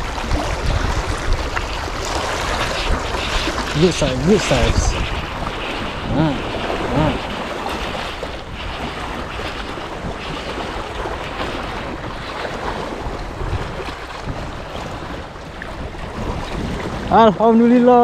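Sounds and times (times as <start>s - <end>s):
sea water washing: 0.0s - 18.0s
wind on microphone: 0.0s - 18.0s.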